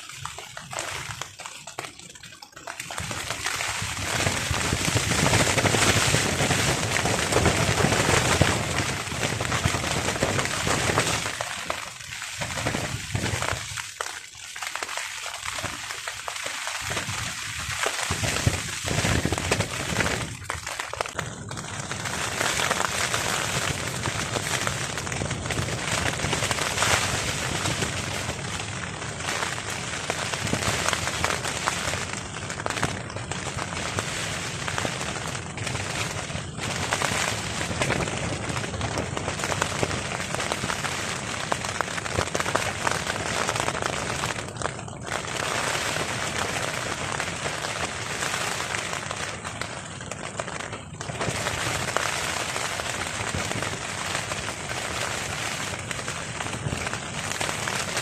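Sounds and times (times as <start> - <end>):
heavy rain drumming on a tarp: 0.0 - 58.0.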